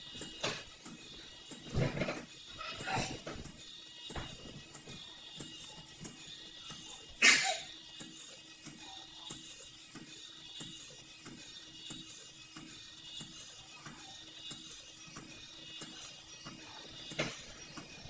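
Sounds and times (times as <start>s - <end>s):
toy robot motor clicking: 0.0s - 18.0s.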